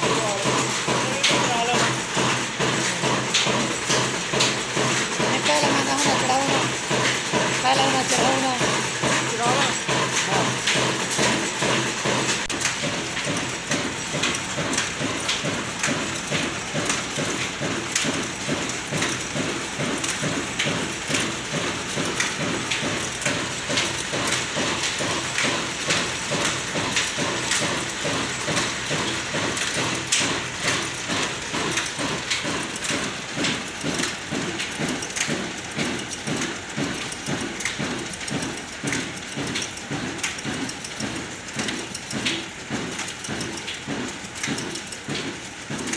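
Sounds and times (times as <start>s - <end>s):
belt and mill clattering: 0.0s - 45.9s.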